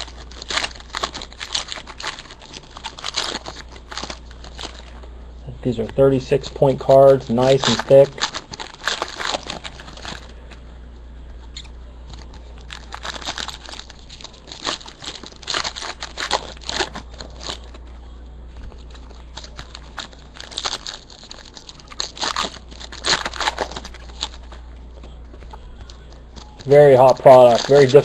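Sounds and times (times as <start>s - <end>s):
foil wrappers crinkling and tearing: 0.0s - 5.0s, 5.6s - 10.5s, 11.4s - 28.0s.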